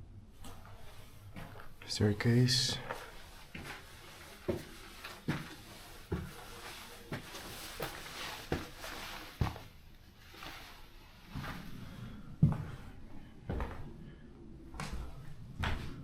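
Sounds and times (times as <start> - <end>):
footsteps: 0.4 - 14.0, 14.6 - 16.0.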